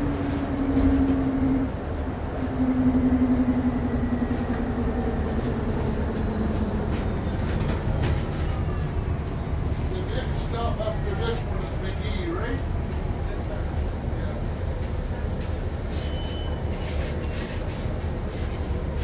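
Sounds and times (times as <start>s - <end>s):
bus road rumble: 0.0s - 19.0s.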